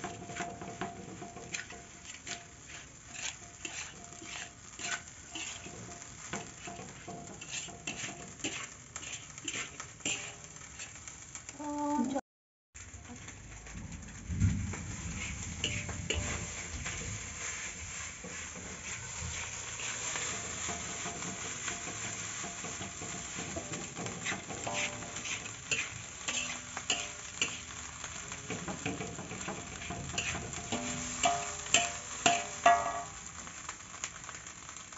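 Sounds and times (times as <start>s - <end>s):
spatula scraping a wok: 0.0s - 11.4s, 13.0s - 34.9s
rice sizzling in a wok: 0.0s - 12.2s, 12.8s - 34.9s.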